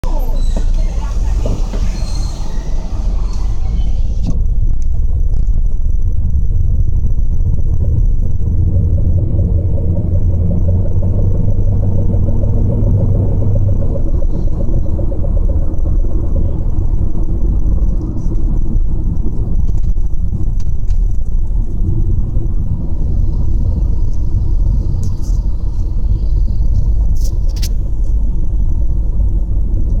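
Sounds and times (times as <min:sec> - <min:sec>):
car low rumble: 0:00.0 - 0:30.0.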